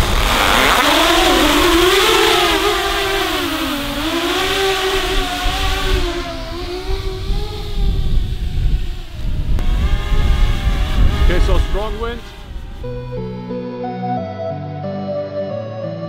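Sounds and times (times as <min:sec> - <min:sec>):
low wind rumble: 0:00.0 - 0:13.5
drone motors whining: 0:00.0 - 0:14.8.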